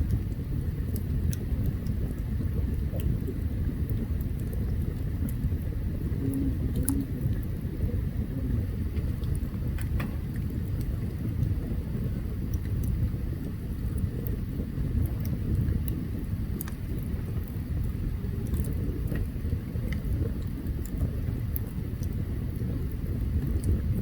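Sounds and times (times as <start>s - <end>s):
campfire crackling and popping: 0.0s - 24.0s
low fire rumble: 0.0s - 24.0s.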